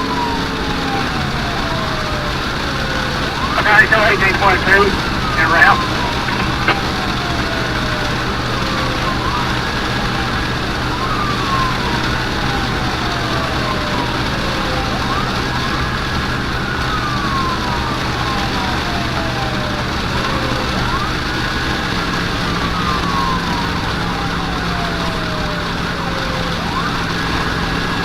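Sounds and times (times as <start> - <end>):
emergency siren wailing: 0.0 - 28.0.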